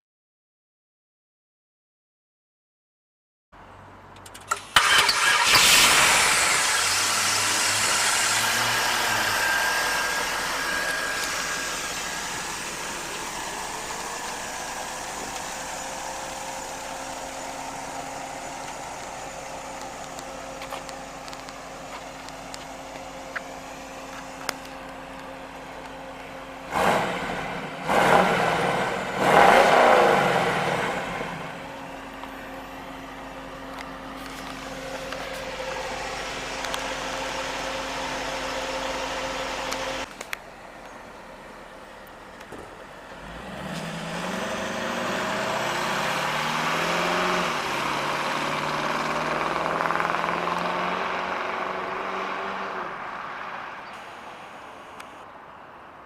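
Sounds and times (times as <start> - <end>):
car engine starting and idling: 3.6 - 55.9
car engine revving: 4.5 - 40.2, 42.0 - 54.1.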